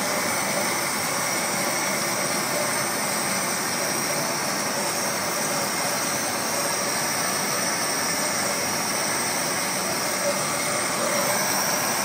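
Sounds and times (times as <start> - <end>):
laser cutting machine whirring: 0.0 - 12.0.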